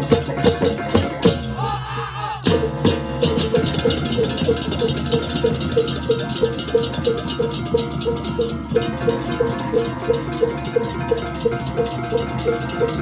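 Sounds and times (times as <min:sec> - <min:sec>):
crashing cymbals and drums: 0:00.0 - 0:13.0.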